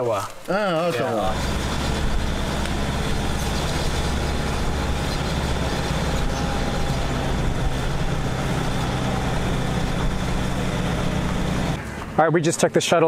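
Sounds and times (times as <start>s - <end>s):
van engine and road noise: 1.0s - 13.0s.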